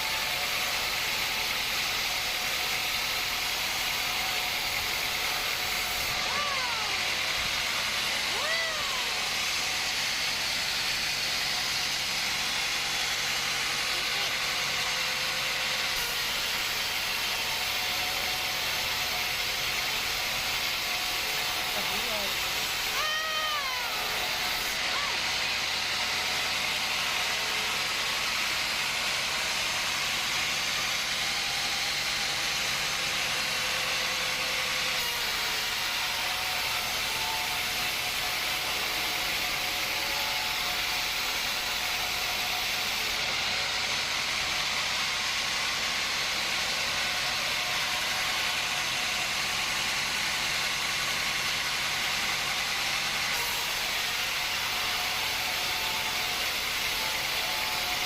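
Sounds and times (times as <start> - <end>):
woodworking machinery hissing: 0.0 - 58.0.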